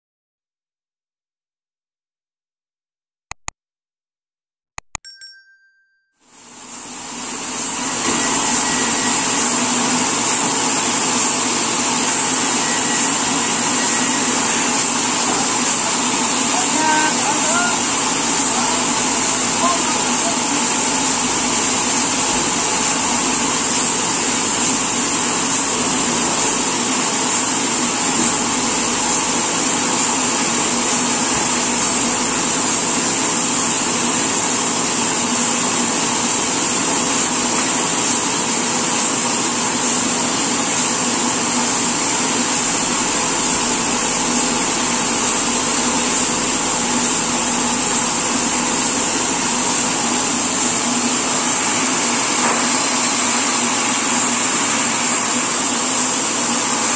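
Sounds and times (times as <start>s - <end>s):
sawmill machinery drone: 6.4s - 56.9s.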